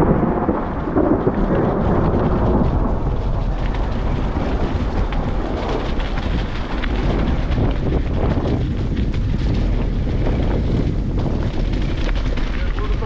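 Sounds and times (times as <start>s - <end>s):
rain and hail ticking: 0.0s - 13.0s
wind and riding rumble: 0.0s - 13.0s.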